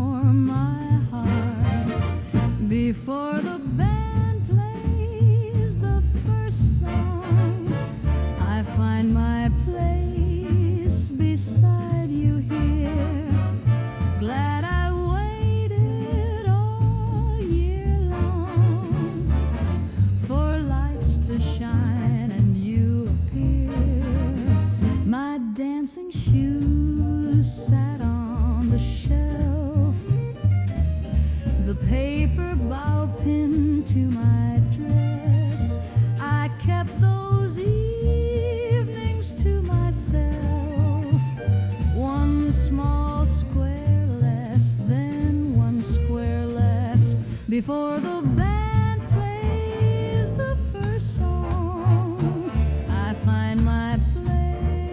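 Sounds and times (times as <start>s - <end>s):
swing dance band music: 0.0s - 25.3s, 26.2s - 54.9s.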